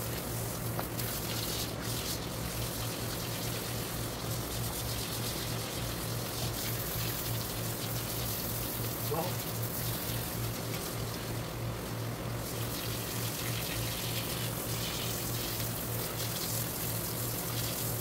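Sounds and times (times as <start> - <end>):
shower water spraying: 0.0 - 18.0.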